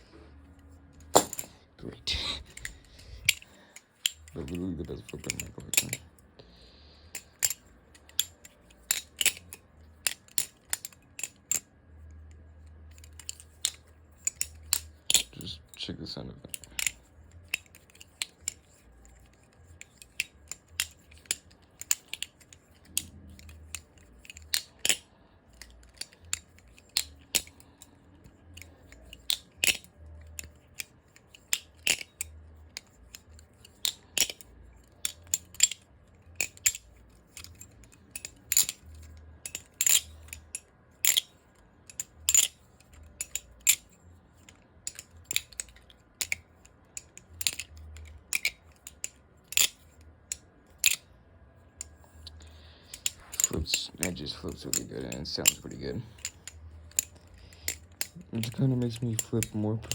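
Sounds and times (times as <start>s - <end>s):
butterfly knife clicking and clacking: 2.4s - 6.2s, 7.1s - 12.3s, 12.9s - 15.4s, 16.5s - 51.1s, 51.8s - 59.9s.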